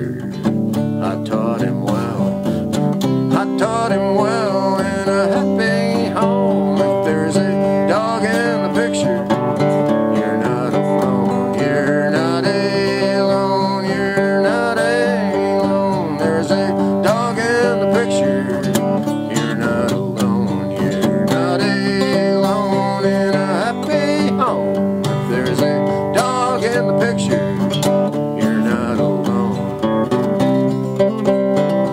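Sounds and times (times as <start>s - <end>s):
acoustic guitar strumming: 0.0s - 31.9s
guitar melody of bent notes: 0.0s - 31.9s.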